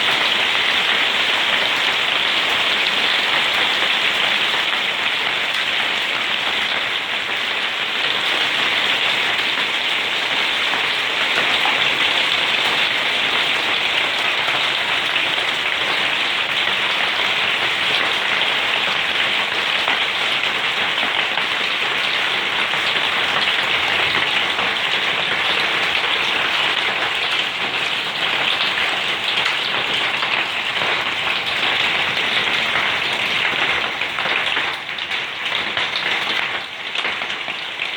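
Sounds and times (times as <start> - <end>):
hail falling hard: 0.0 - 37.9.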